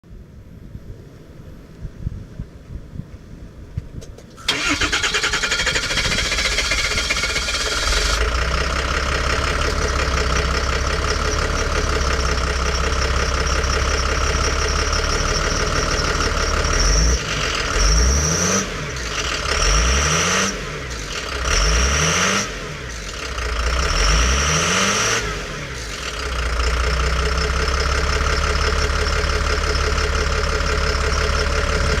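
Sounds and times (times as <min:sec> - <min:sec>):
truck engine starting and idling: 0:04.2 - 0:32.0
truck engine revving: 0:04.5 - 0:32.0.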